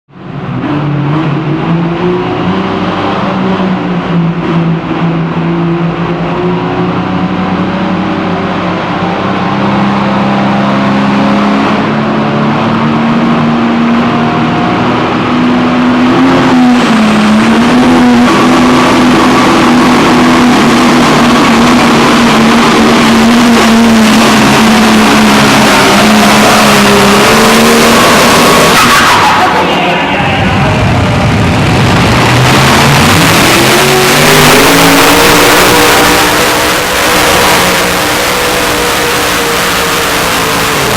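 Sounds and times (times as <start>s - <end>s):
tractor engine at high revs: 0.1s - 40.9s.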